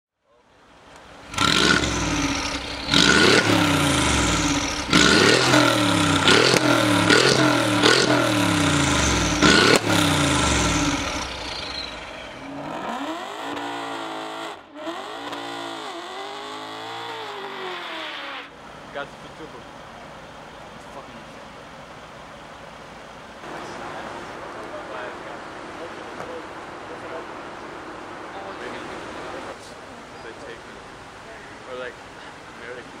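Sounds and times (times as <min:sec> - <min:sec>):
sharp exhaust cracks: 0:00.5 - 0:32.8
car engine revving: 0:00.6 - 0:32.8.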